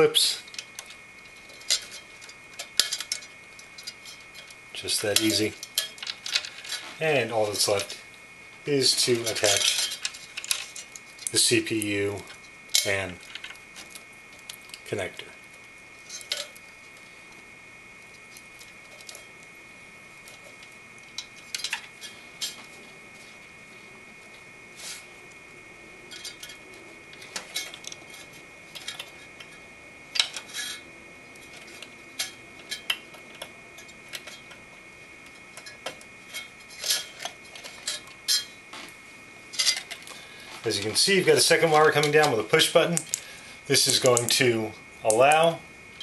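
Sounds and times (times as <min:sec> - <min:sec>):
faint high whine: 0:00.0 - 0:46.0.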